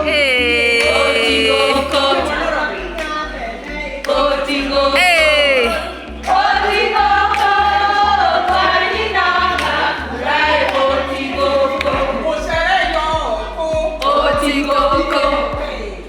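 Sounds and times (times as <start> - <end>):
bass line: 0.0 - 16.0
group singing: 0.0 - 16.0.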